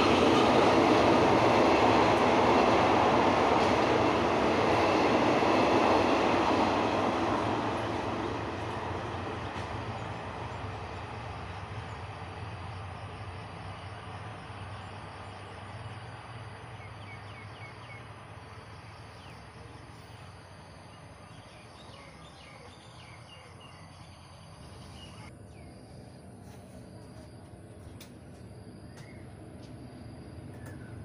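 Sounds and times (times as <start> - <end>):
distant diesel train rumble: 0.0 - 31.0.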